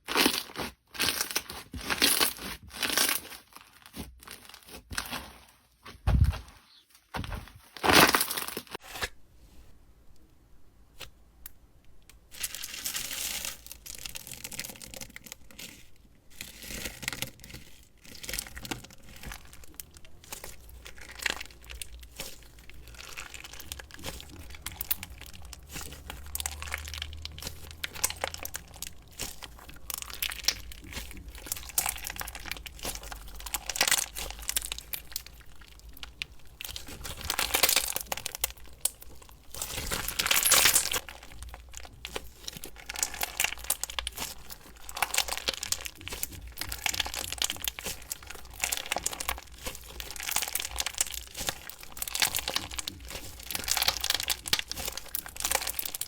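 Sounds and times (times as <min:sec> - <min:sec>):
slime crackling and popping: 0:00.0 - 0:05.2, 0:12.3 - 0:56.0.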